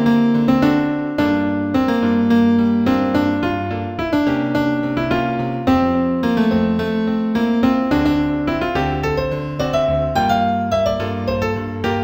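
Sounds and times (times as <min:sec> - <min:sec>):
slow piano piece: 0:00.0 - 0:12.0.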